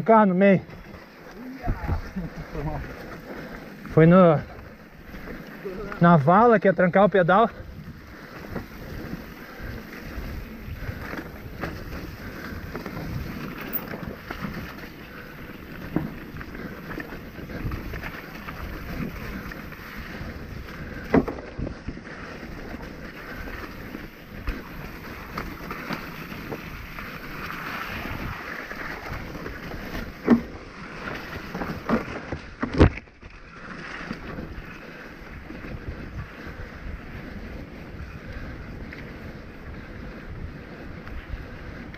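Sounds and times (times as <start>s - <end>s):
bike rattling over bumps: 0.0s - 41.9s
bike tyres rumbling on dirt: 0.0s - 41.9s
wind noise: 0.8s - 6.2s, 7.4s - 41.9s.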